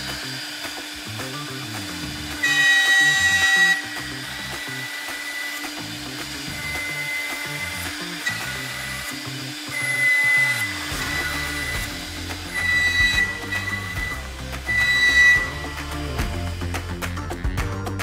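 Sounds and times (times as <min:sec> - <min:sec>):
cnc router spindle whine: 0:00.0 - 0:16.7
axis motors humming: 0:00.0 - 0:17.5
end mill cutting wood: 0:00.0 - 0:17.7.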